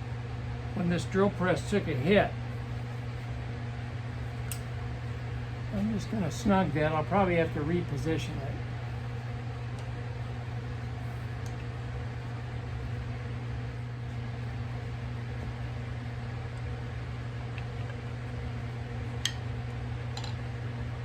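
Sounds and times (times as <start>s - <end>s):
low hum of fan or motor: 0.0s - 21.0s.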